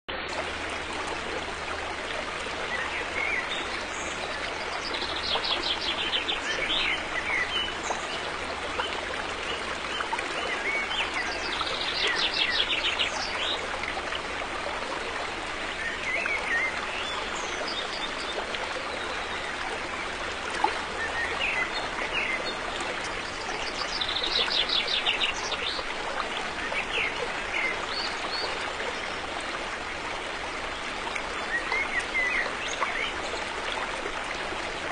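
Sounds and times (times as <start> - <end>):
river flowing: 0.1 - 34.9.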